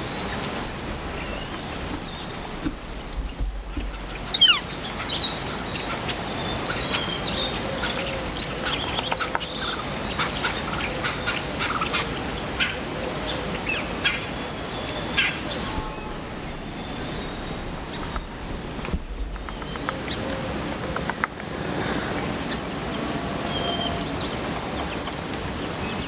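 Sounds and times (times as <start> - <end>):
birds chirping and calling: 0.0 - 25.2
steady outdoor hiss: 0.0 - 26.0.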